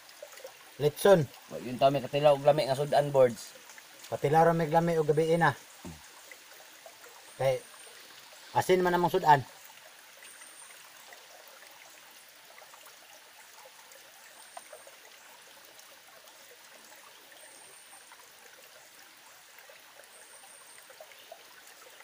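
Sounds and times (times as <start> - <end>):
creek trickling: 0.0 - 22.0.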